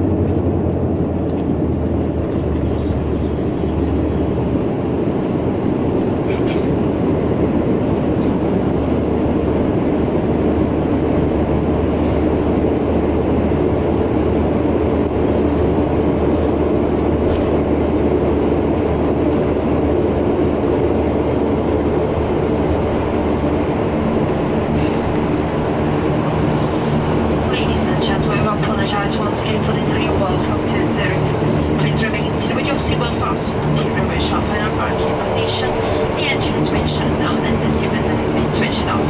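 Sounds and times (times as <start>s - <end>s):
turboprop engines droning in cabin: 0.0s - 39.0s.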